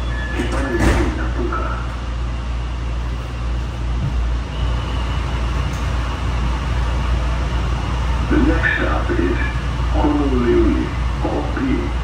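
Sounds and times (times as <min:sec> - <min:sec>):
train car rumbling inside cabin: 0:00.0 - 0:12.0.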